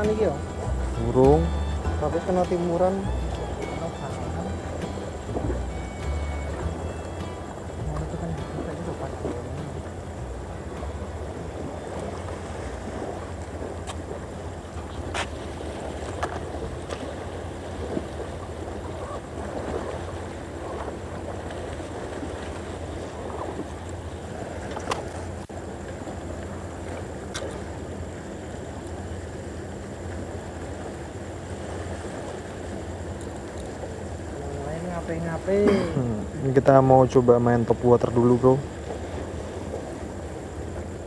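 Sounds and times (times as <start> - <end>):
sea waves: 0.0 - 41.0
wind: 0.0 - 41.0.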